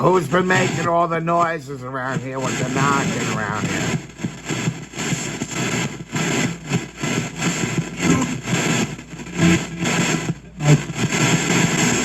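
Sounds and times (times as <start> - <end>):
radio static and broadcast fragments: 0.0 - 12.0.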